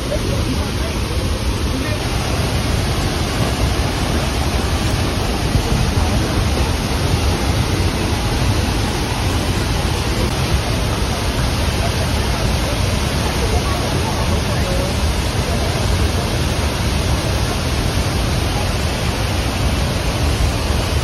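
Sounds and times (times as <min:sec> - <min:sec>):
waterfall rushing: 0:00.0 - 0:21.0
wind buffeting microphone: 0:00.0 - 0:21.0.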